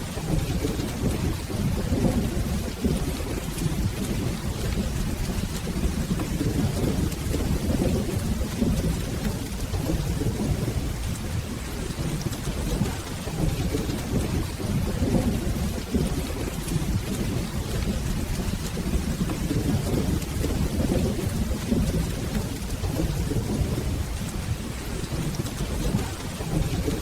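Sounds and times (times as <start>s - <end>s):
rolling thunder: 0.0s - 27.0s
steady rain: 0.0s - 27.0s.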